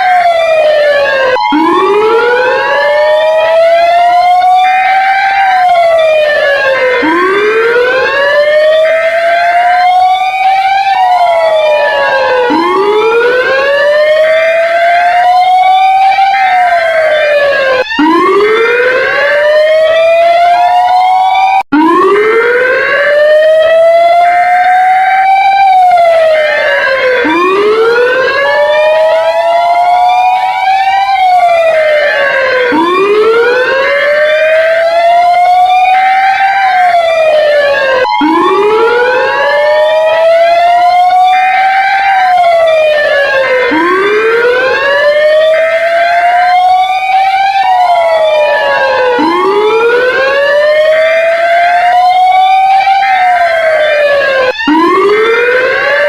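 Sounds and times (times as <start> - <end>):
higher siren sweeps: 0.0 - 56.0
wailing alarm siren: 0.0 - 56.0.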